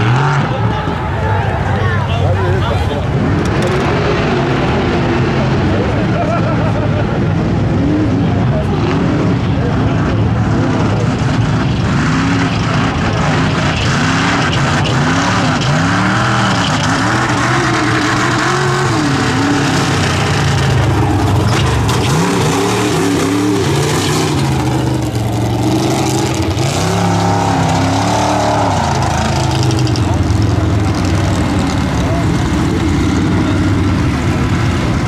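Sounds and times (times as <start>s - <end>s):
truck engine revving: 0.0s - 35.0s.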